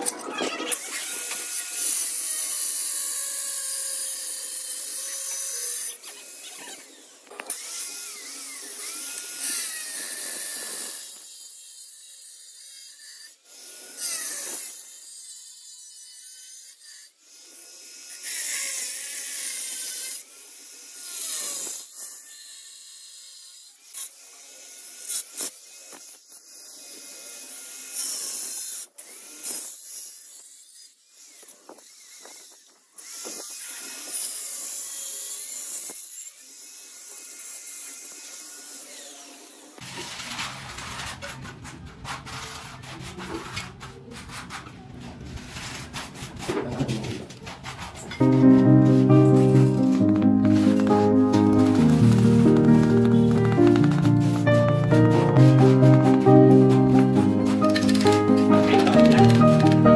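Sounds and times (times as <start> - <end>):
angle grinder cutting tile: 0.0 - 41.4, 47.4 - 59.9.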